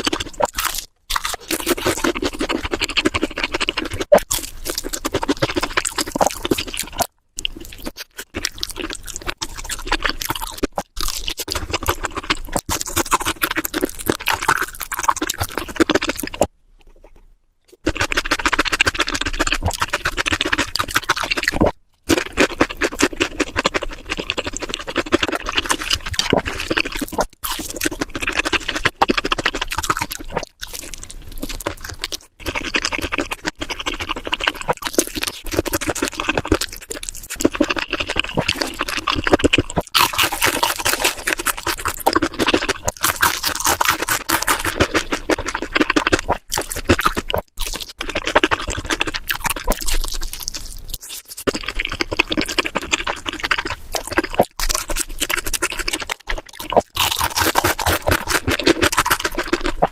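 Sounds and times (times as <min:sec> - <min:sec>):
crunchy chewing of fried food: 0:00.0 - 0:59.9.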